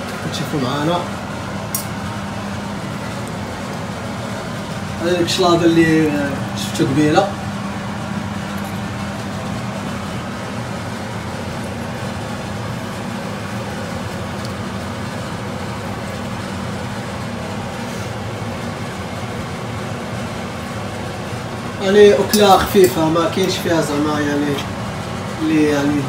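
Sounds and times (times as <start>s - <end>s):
appliance fan humming: 0.0s - 26.0s.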